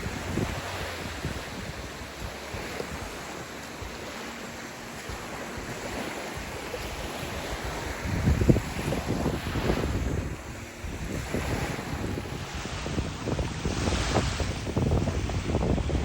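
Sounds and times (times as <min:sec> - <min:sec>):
lake waves washing: 0:00.0 - 0:16.0
wind buffeting microphone: 0:00.0 - 0:16.0.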